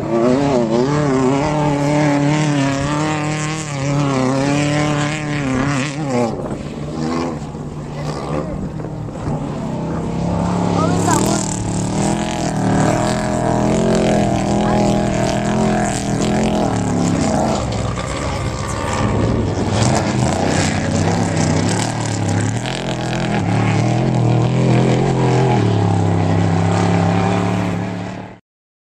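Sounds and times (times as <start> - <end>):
truck engine revving past: 0.0 - 28.4.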